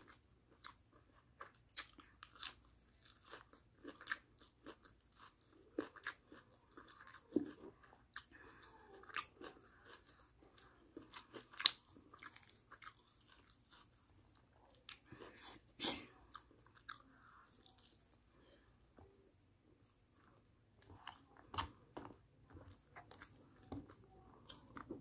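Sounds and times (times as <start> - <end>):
chewing and biting food: 0.0 - 18.2, 19.8 - 25.0.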